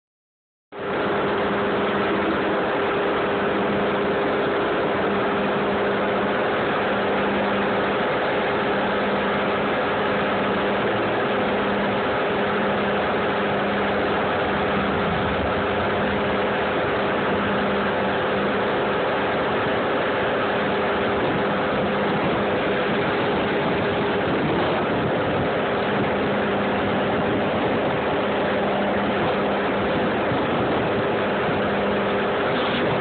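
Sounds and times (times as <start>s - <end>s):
concrete saw engine running: 0.8s - 33.0s.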